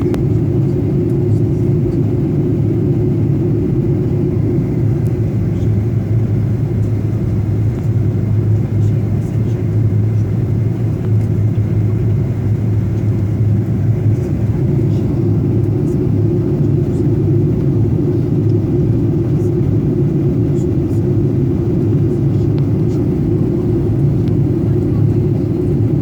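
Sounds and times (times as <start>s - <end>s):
engine and airflow rumble: 0.0s - 26.0s.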